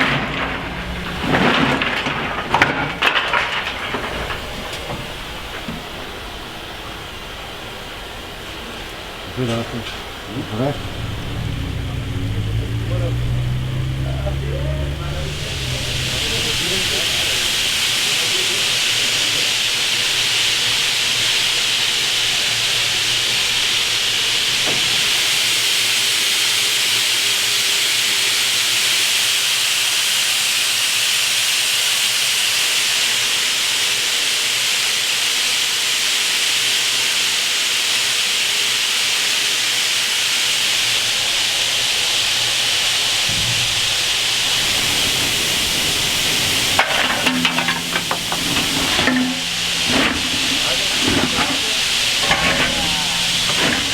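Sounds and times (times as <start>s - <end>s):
steam hissing from locomotive: 0.0s - 53.9s.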